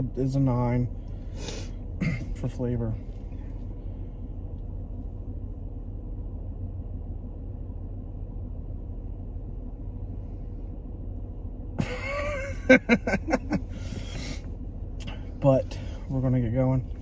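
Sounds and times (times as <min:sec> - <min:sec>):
car engine idling: 0:00.0 - 0:17.0
faint steady hum: 0:00.0 - 0:17.0.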